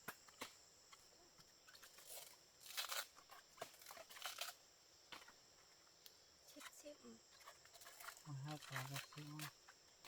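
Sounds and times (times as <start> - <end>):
rustling and crunching: 0.0 - 5.9, 6.5 - 10.0.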